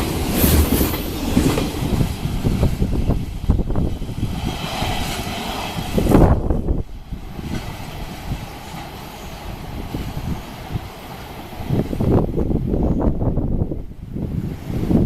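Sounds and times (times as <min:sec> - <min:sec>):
freight train passing: 0:00.0 - 0:15.0.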